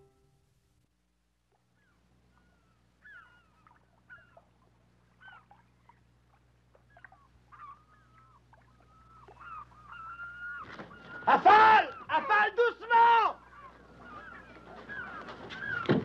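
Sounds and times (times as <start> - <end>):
birds calling faintly: 1.4 - 16.0.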